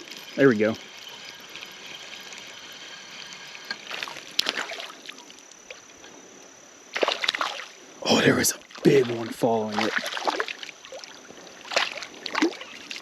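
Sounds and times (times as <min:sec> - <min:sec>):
water splashing: 0:00.0 - 0:06.0, 0:06.9 - 0:13.0
creek water running: 0:00.0 - 0:06.3, 0:06.9 - 0:13.0.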